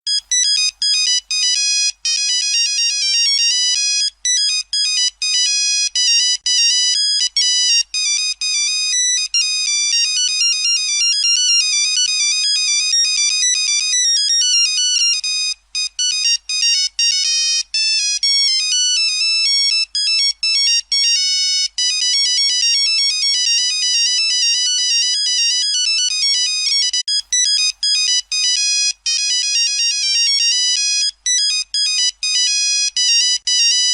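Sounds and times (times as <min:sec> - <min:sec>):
mobile phone ringtone melody: 0:00.1 - 0:33.9.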